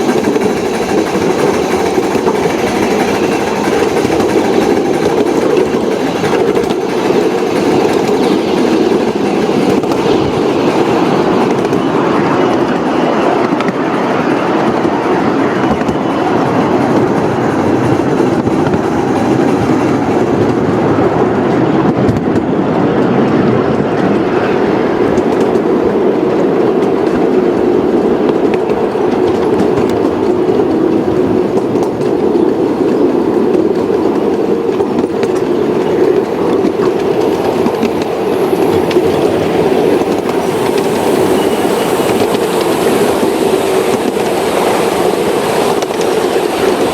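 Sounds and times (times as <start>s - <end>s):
model train running on track: 0.0s - 46.9s.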